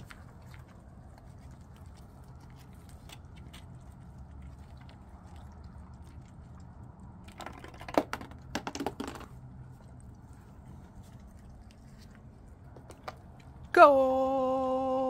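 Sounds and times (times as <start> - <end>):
steady low hum: 0.0 - 7.6, 9.2 - 15.0.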